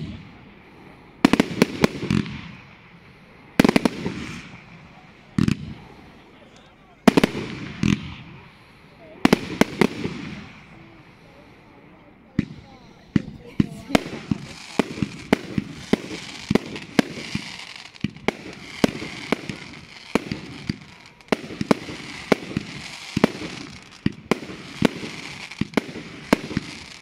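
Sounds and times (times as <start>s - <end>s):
fireworks crackling hiss: 0.0s - 27.0s
fireworks bangs: 1.2s - 27.0s.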